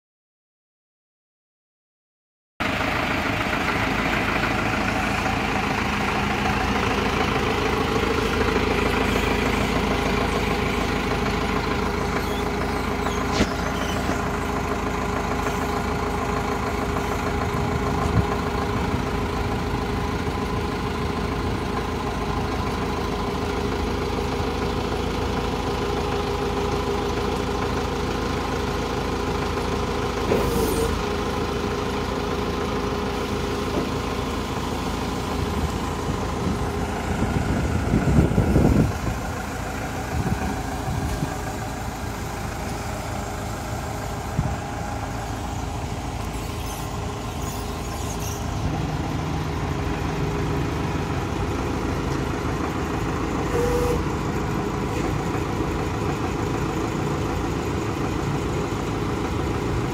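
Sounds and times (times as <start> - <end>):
diesel engine running: 2.6 - 59.9.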